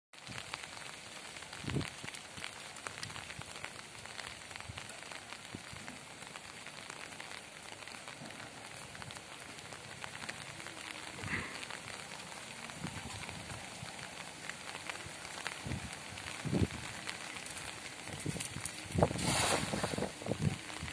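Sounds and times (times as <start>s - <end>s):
light rain falling: 0.2s - 20.9s.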